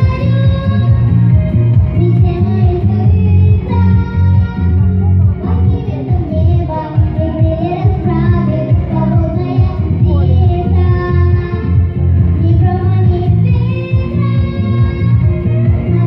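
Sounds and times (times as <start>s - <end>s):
instrumental music with strong bass: 0.0s - 16.0s
young woman singing: 0.0s - 16.0s.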